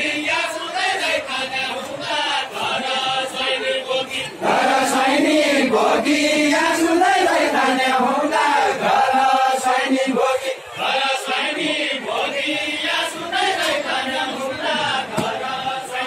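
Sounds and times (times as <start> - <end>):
men singing folk song together: 0.0 - 16.0.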